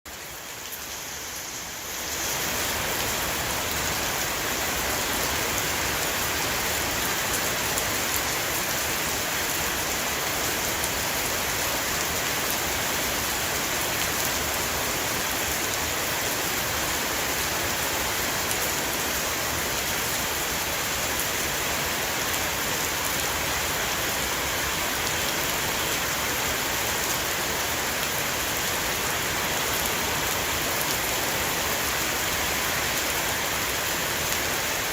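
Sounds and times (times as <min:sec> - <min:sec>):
heavy rain on a roof: 0:00.1 - 0:34.9.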